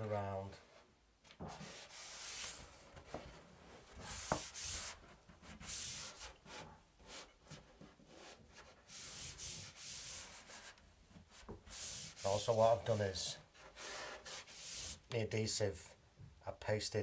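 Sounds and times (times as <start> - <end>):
hand rubbing wall liner: 1.4 - 15.1.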